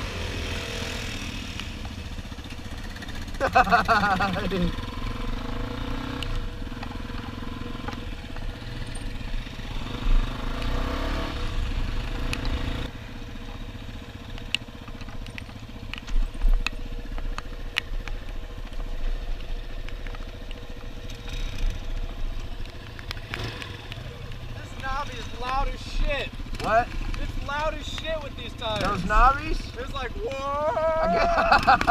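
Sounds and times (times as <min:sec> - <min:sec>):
knobby tyres droning: 0:00.0 - 0:31.9
motorcycle engine running: 0:00.0 - 0:31.9.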